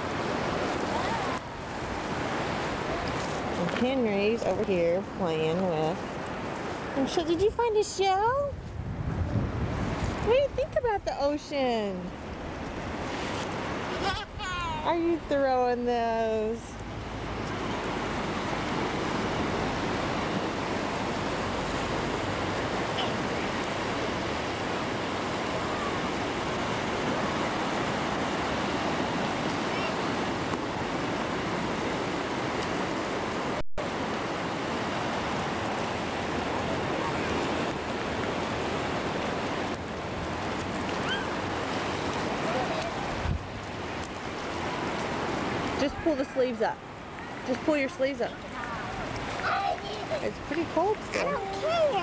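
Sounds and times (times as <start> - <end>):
small waves washing on beach: 0.0 - 52.0.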